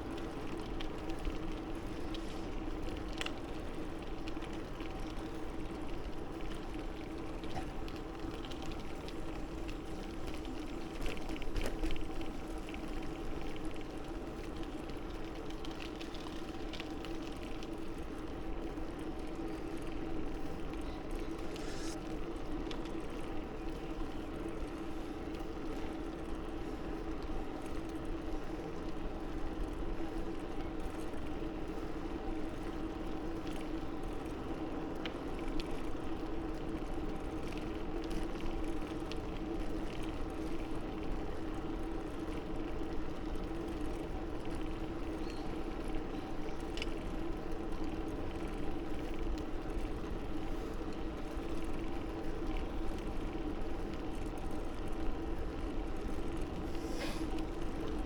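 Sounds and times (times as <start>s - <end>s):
bicycle tyre rumble: 0.0s - 58.0s
wind: 0.0s - 58.0s.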